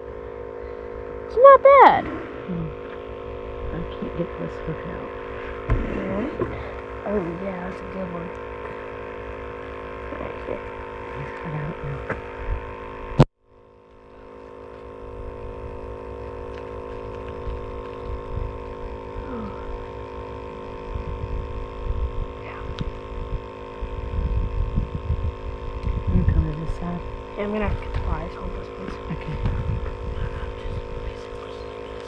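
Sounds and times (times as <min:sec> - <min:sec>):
low uneven rumble: 0:00.0 - 0:32.0
steady tonal hum: 0:00.0 - 0:32.0.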